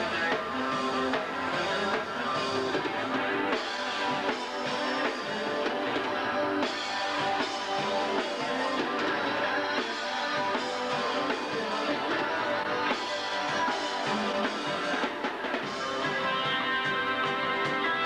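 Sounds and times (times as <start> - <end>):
drum kit: 0.0 - 18.0
electric guitars: 0.0 - 18.0
rock band playing live: 0.0 - 18.0.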